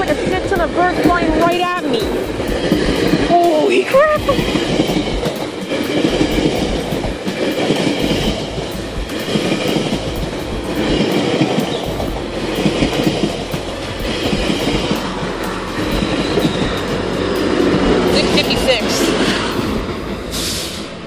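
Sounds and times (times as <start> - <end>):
train wheels rumbling roar: 0.0 - 21.0.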